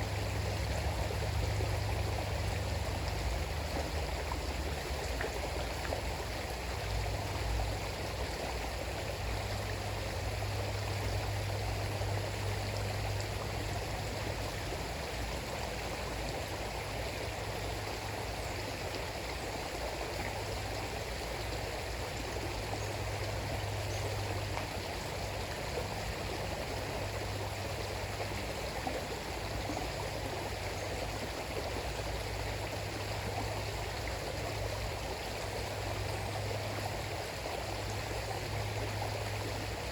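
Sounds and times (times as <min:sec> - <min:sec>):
low rumble of water: 0:00.0 - 0:39.9
river water rushing: 0:00.0 - 0:39.9.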